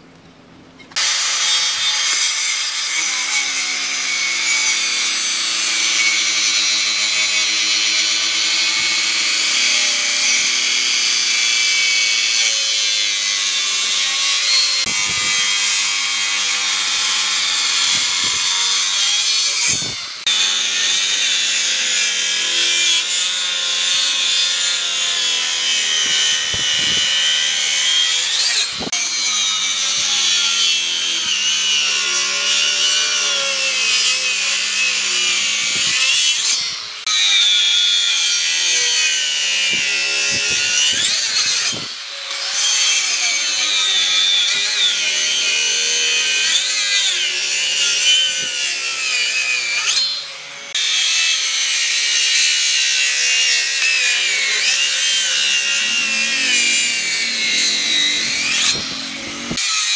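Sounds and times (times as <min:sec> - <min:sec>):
circular saw cutting wood: 0:00.9 - 0:59.9.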